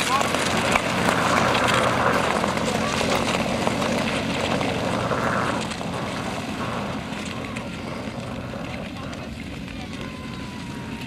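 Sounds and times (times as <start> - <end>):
skate blades scraping ice: 0.0 - 10.9.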